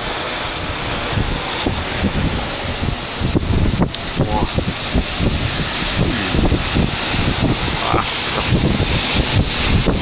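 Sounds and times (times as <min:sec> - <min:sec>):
strong gusty wind buffeting microphone: 0:00.0 - 0:10.0.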